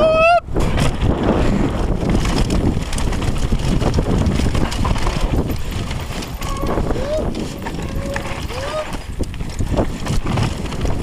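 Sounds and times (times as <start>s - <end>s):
wind buffeting microphone: 0.0s - 11.0s
bike rattling: 0.5s - 11.0s
tyres on gravel: 0.6s - 11.0s.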